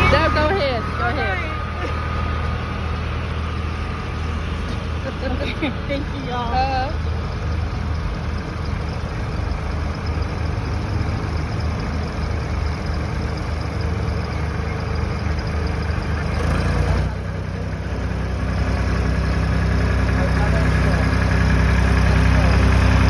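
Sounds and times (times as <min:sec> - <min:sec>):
tractor engine rumbling: 0:00.0 - 0:23.0.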